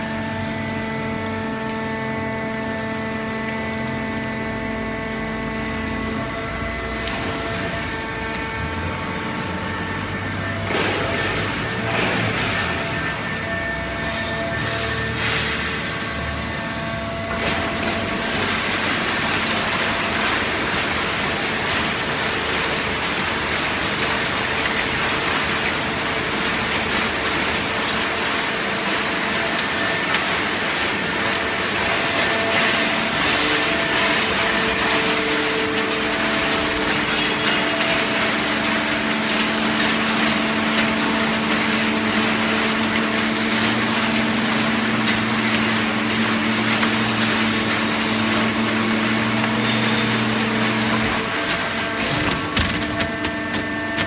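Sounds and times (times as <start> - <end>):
baling press motor humming: 0.0 - 54.0.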